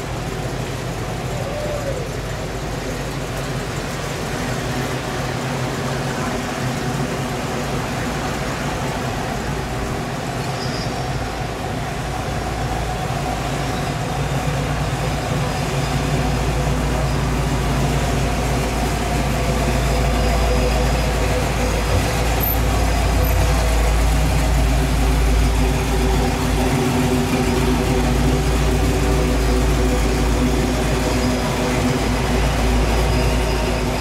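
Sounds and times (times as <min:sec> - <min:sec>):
car engines at a crawl: 0:00.0 - 0:34.0.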